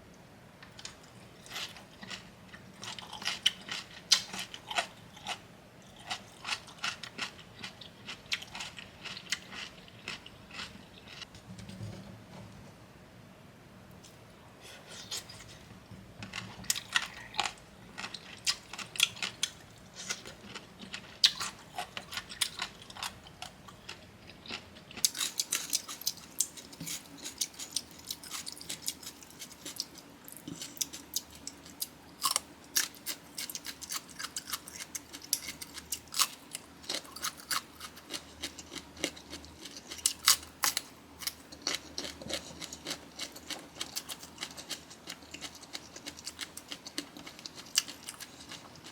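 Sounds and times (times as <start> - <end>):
close chewing with crisp crunches: 0.8 - 11.3, 16.3 - 48.9.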